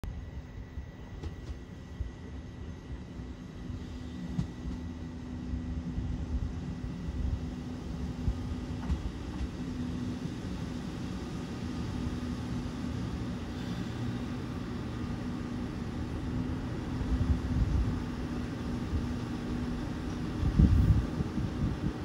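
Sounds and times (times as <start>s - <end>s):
diesel train rumble: 0.0s - 22.0s.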